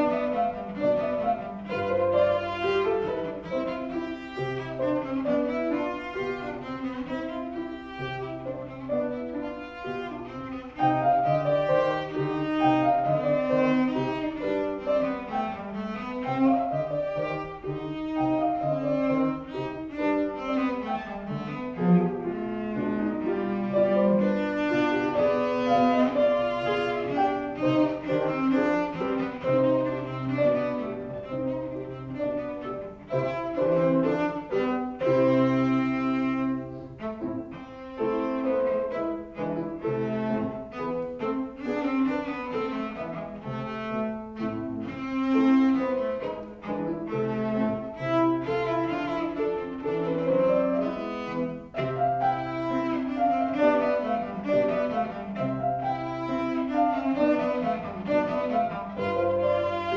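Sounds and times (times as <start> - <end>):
cello bowed melody: 0.0 - 59.9
piano accompaniment: 0.0 - 59.9.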